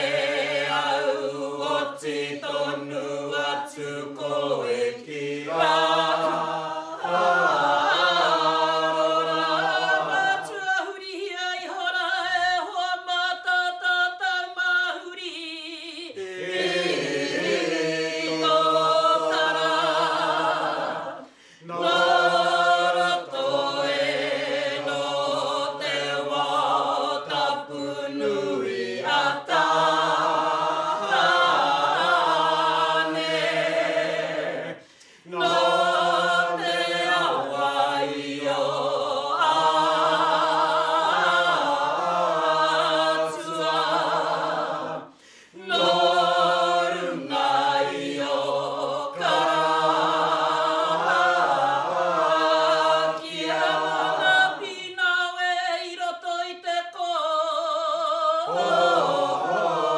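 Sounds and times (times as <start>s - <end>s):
group chanting without instruments: 0.0s - 10.7s, 16.1s - 55.0s, 58.4s - 59.9s.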